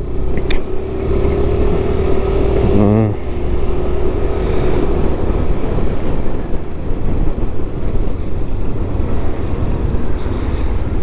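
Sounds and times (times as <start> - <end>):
road noise: 0.0 - 11.0
wind rushing over microphone: 0.0 - 11.0.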